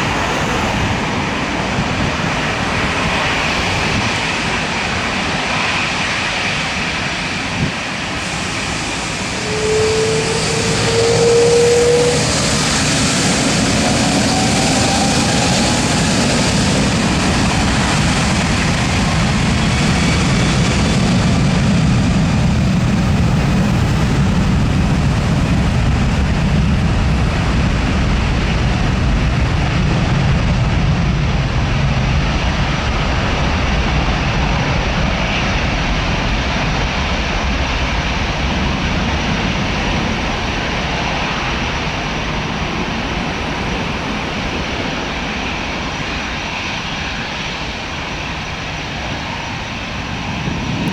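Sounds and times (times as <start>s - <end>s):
jet engines running: 0.0s - 50.9s
rising engine whine: 0.0s - 50.9s.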